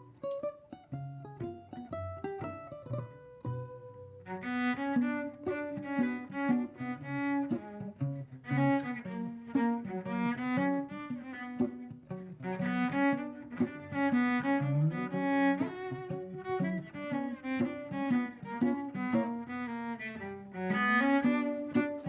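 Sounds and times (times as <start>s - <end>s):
bandolim playing lively tune: 0.0s - 22.0s
cello: 0.0s - 22.0s.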